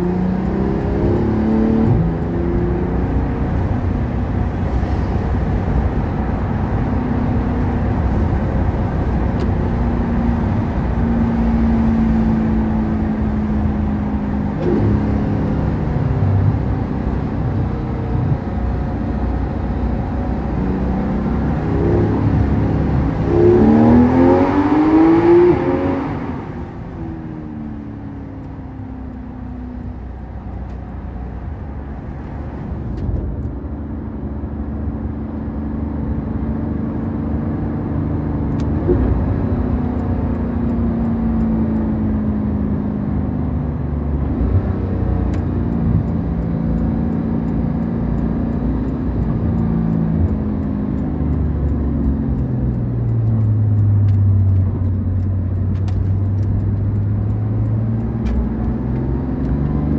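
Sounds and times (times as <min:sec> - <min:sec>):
car engine from inside cabin: 0:00.0 - 0:59.9
road noise: 0:00.0 - 0:59.9.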